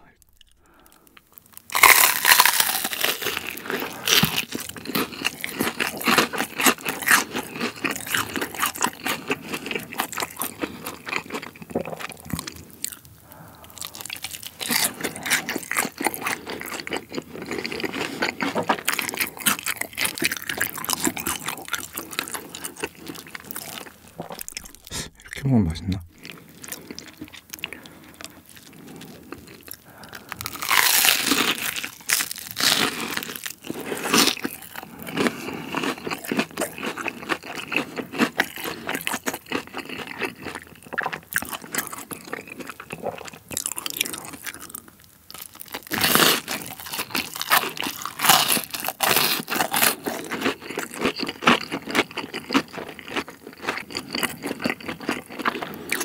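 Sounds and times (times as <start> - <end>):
crunchy bites and chewing: 0.0 - 25.5, 26.2 - 56.0.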